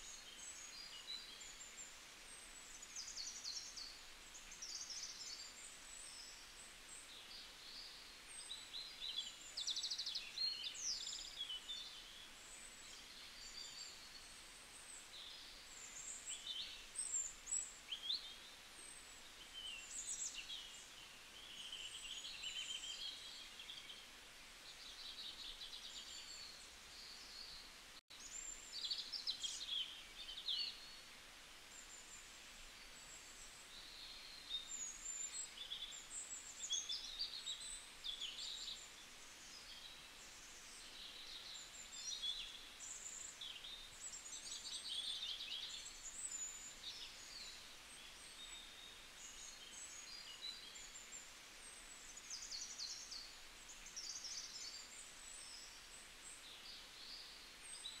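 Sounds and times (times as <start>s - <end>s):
faint outdoor hiss: 0.0s - 58.0s
small birds chirping: 0.0s - 58.0s.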